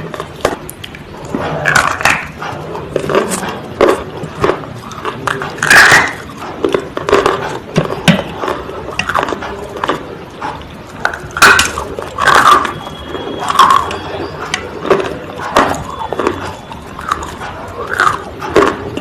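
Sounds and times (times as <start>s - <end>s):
brittle food crunching: 0.0s - 19.0s.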